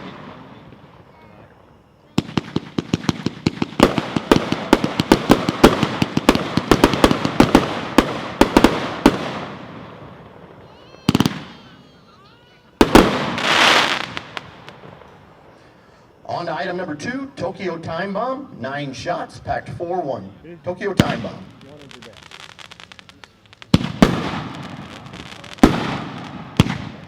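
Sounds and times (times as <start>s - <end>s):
fireworks cracking reports: 0.0s - 27.0s
fireworks crackling hiss: 0.0s - 27.0s.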